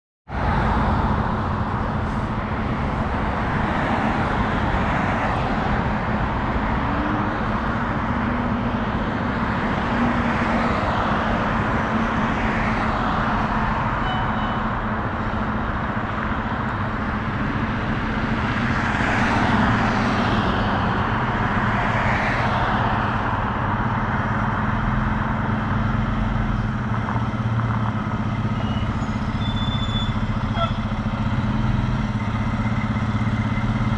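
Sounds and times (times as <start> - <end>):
vehicles passing: 0.3 - 33.9.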